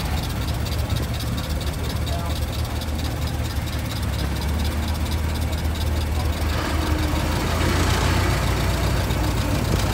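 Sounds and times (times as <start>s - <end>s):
car engine low rumble: 0.0s - 9.9s
fast even ticking: 0.0s - 9.9s.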